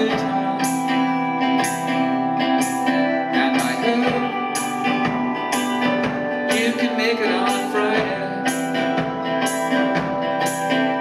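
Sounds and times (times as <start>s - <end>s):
person singing: 0.0s - 11.0s
steady drum beat: 0.0s - 11.0s
strummed electric guitar: 0.0s - 11.0s.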